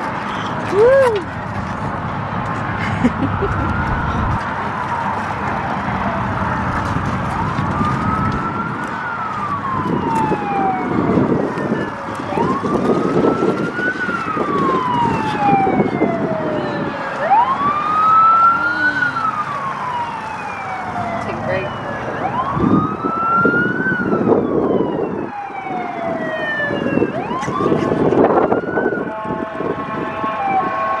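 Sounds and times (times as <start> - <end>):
emergency siren wailing: 0.0 - 31.0.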